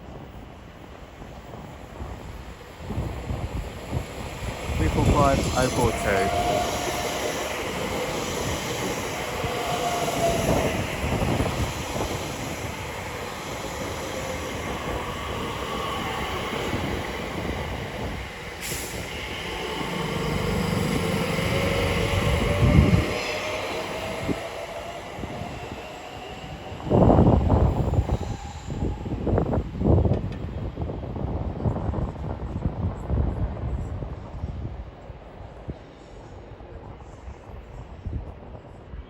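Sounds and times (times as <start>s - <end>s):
train rumble and wheel noise: 0.0s - 39.0s.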